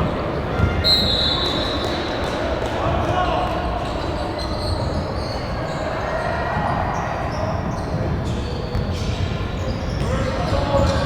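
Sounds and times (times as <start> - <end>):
crowd noise: 0.0 - 11.0.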